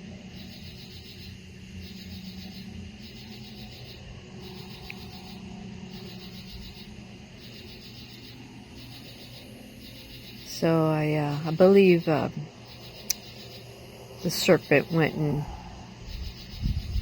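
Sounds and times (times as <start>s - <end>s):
low steady hum: 0.0s - 17.0s
night insects trilling: 0.0s - 17.0s.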